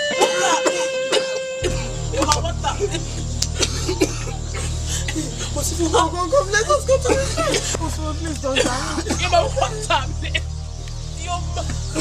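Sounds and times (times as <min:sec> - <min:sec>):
dramatic film score: 0:00.0 - 0:12.0
low steady hum: 0:01.6 - 0:12.0.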